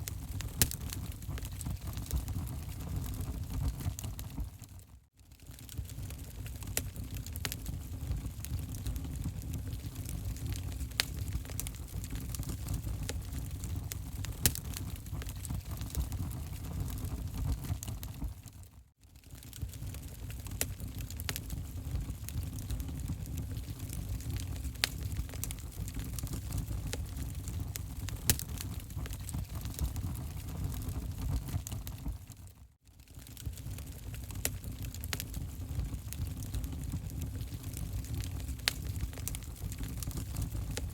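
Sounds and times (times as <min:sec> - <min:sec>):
fire crackling and popping: 0:00.0 - 0:40.9
fire rumbling: 0:00.0 - 0:40.9.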